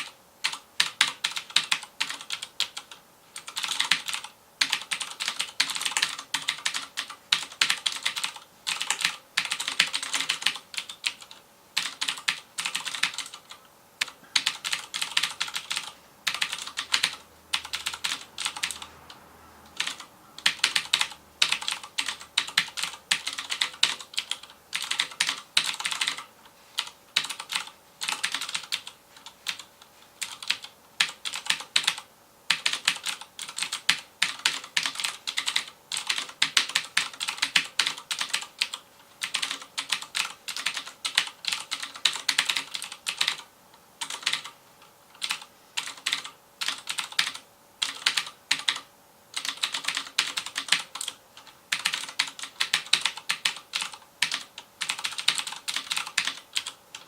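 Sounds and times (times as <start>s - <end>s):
mechanical keyboard typing: 0.0s - 19.1s, 19.7s - 44.6s, 45.2s - 57.0s.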